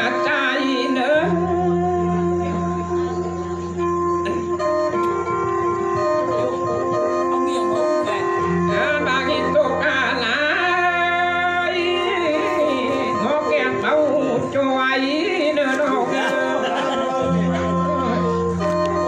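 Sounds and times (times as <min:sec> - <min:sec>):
instrumental backing: 0:00.0 - 0:19.0.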